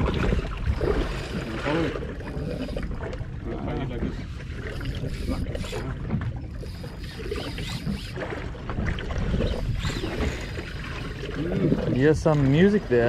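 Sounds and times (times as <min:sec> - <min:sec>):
sea noise: 0:00.0 - 0:13.0
wind: 0:00.0 - 0:13.0.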